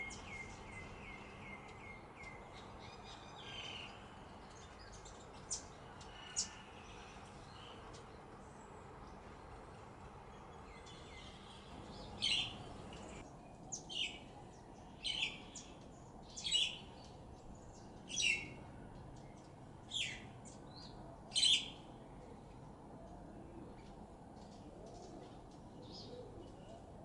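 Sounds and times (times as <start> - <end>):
faint outdoor background: 0.0 - 27.0.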